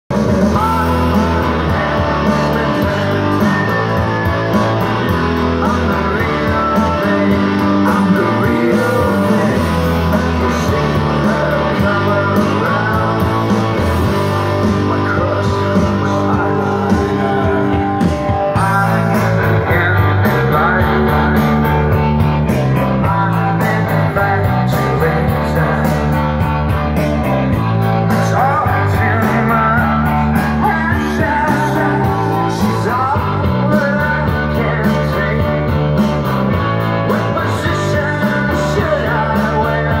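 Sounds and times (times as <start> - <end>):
rock song over loudspeakers: 0.1 - 40.0.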